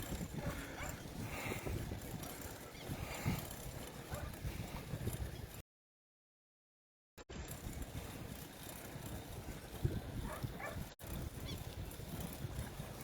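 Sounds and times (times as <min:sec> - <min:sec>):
wind buffeting microphone: 0:00.0 - 0:05.6, 0:07.4 - 0:13.0.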